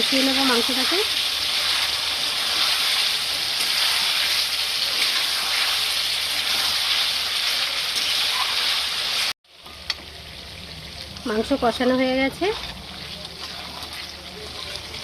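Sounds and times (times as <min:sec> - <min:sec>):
curry sizzling in hot oil: 0:00.0 - 0:15.0.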